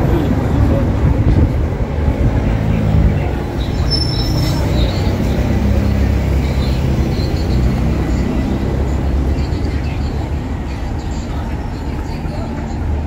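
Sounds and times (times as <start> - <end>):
heavy vehicle engine humming: 0.0 - 13.0
low rumble of motor traffic: 0.0 - 13.0.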